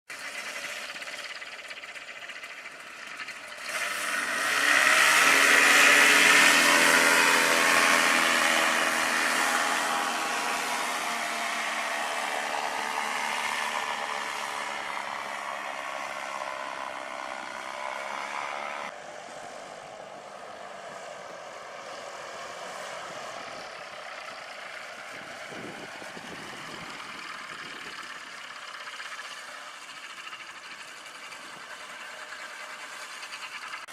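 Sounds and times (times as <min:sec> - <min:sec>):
paramotor engine running: 0:00.1 - 0:33.9.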